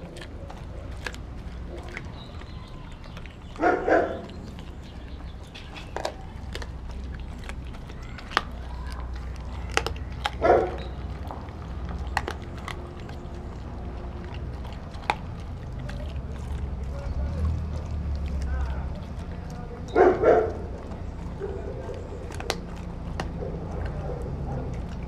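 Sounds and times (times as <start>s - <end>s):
dog chewing meat: 0.0s - 25.0s
steady low rumble: 0.0s - 25.0s.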